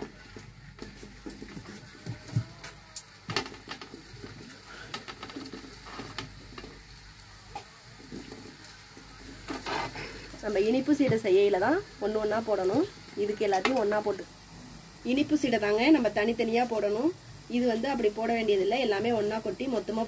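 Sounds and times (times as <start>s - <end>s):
dough balls sizzling in oil: 0.0s - 20.0s.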